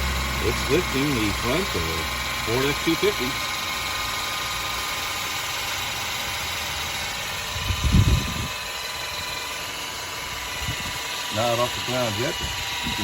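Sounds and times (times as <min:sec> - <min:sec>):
electric jack motor whining: 0:00.0 - 0:13.0.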